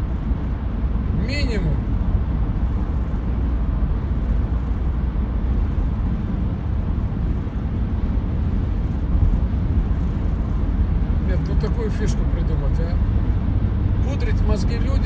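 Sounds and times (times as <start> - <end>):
low rumble with faint hiss: 0.0 - 15.0.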